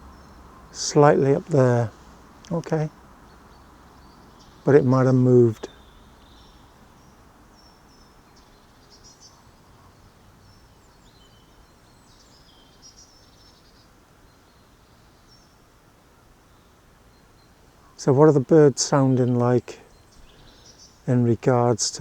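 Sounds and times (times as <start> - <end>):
faint bird chirps: 0.0 - 22.0
low background hiss: 0.0 - 22.0.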